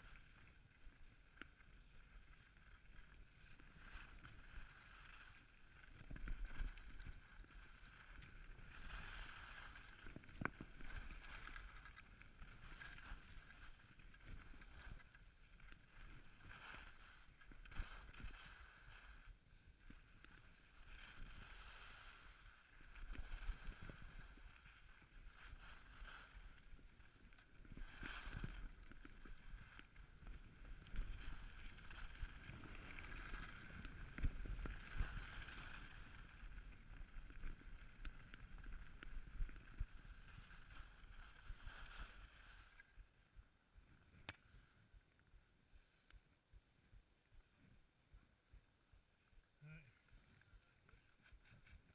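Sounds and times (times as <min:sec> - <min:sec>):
skis scraping over snow: 0:00.0 - 0:43.0.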